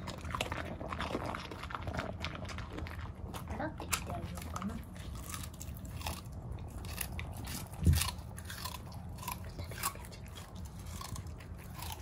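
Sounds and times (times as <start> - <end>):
dog crunching a raw carrot: 0.0 - 12.0.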